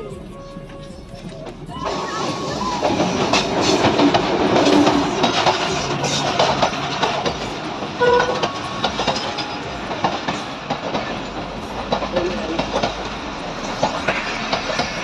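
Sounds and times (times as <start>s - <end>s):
train rolling past: 0.0s - 15.0s
wheels clicking over rail joints: 0.0s - 15.0s.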